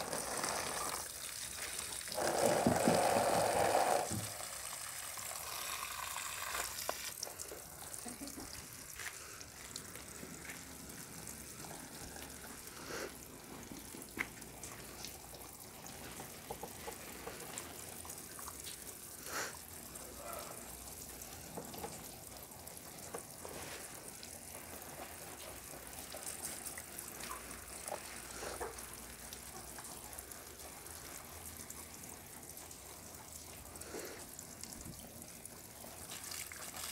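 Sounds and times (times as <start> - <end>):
water drips: 0.0 - 36.9
water trickling: 0.0 - 36.9.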